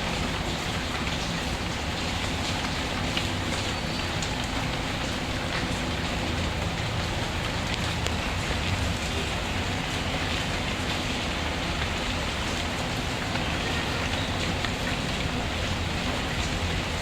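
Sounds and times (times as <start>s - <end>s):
rain hissing: 0.0s - 17.0s
raindrop ticks: 0.0s - 17.0s.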